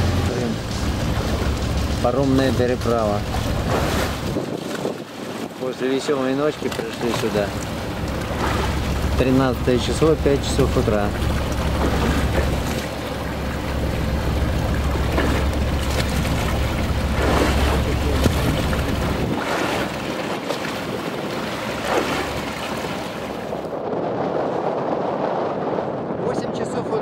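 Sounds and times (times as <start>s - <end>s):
choppy waves: 0.0s - 27.0s
water splashing around boat: 0.0s - 27.0s
wind buffeting microphone: 0.0s - 27.0s.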